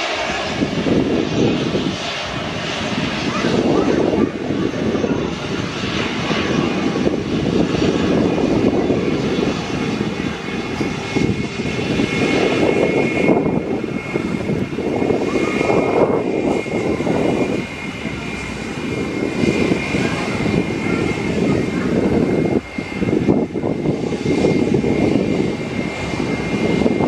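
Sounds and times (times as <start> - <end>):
airliner engines running: 0.0 - 27.0
high engine whine: 0.0 - 27.0
wind rumbling on microphone: 0.0 - 27.0.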